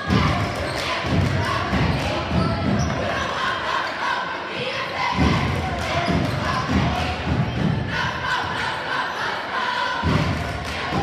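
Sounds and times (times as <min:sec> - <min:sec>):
spectators chattering: 0:00.0 - 0:11.0.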